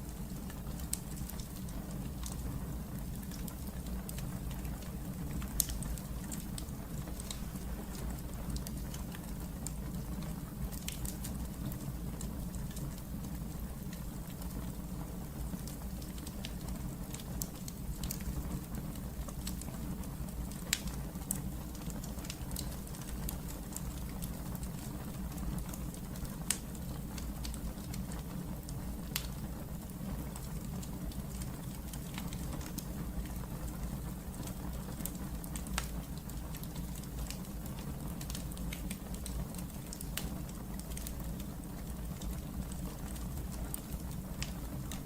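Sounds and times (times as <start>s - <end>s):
fire crackling and popping: 0.0s - 45.0s
low rumble of fire: 0.0s - 45.0s.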